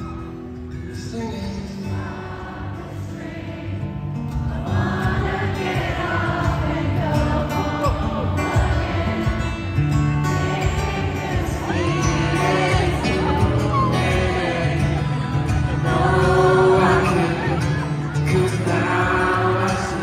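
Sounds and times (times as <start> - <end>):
acoustic guitar playing: 0.0 - 20.0
audience singing along: 1.6 - 20.0.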